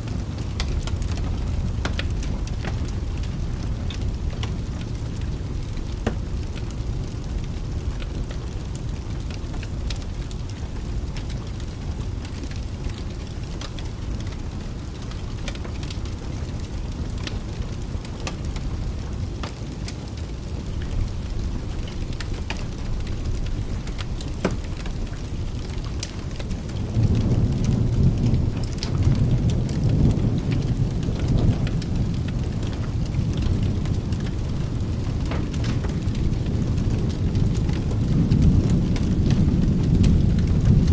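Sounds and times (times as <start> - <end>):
rumble of thunder: 0.0 - 40.9
sharp crackles: 0.0 - 40.9
steady rain: 0.0 - 40.9.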